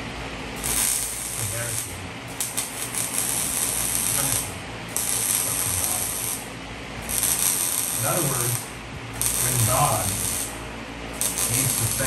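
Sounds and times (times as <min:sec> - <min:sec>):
welding arc crackling: 0:00.5 - 0:12.0.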